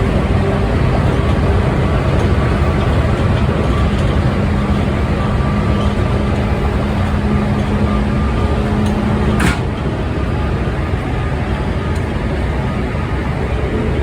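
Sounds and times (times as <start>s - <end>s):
faint traction motor hum: 0.0s - 14.0s
train wheels rumbling: 0.0s - 14.0s.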